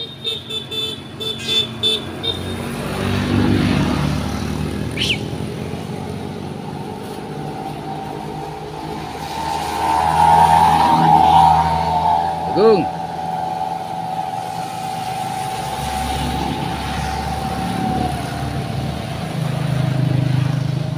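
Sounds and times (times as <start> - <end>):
motorcycles passing: 0.0 - 20.9
van engine approaching: 1.7 - 20.9.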